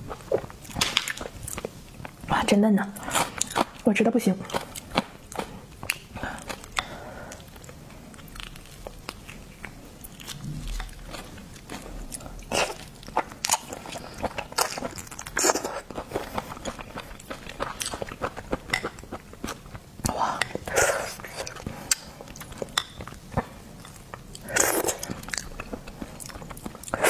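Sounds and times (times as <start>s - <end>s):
chewing and biting: 4.4s - 27.0s.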